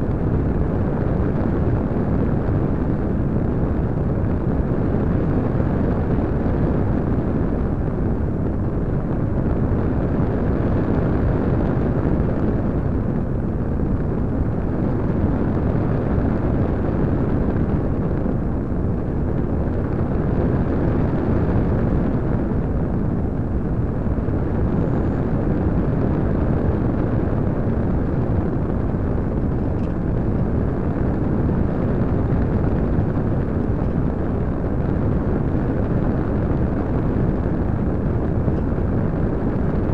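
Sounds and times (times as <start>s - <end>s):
airflow rushing over microphone: 0.0s - 39.9s.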